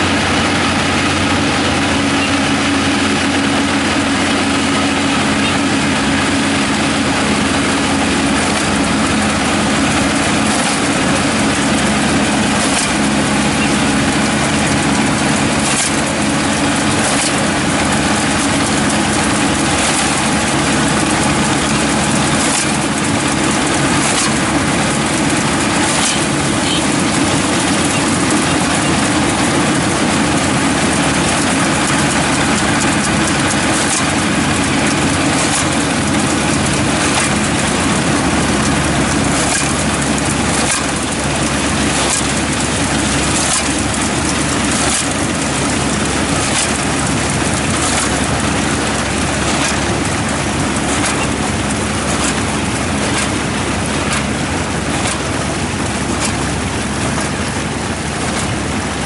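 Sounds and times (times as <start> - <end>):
combine harvester engine running: 0.0 - 59.0.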